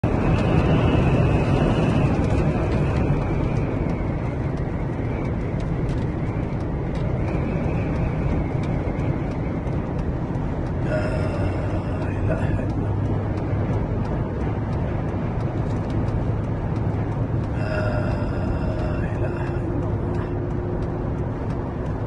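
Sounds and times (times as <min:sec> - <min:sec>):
car rumble and road noise: 0:00.0 - 0:22.0
rushing wind: 0:00.0 - 0:22.0.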